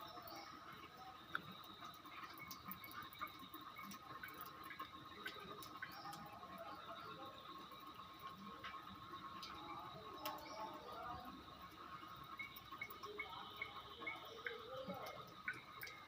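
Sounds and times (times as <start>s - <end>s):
faint chirps: 0.0s - 16.0s
small clicks and ticks: 0.0s - 16.0s.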